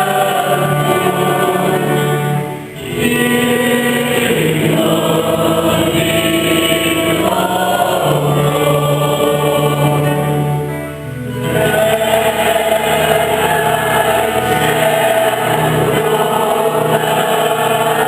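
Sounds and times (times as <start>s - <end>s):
church choir singing a hymn: 0.0s - 18.0s.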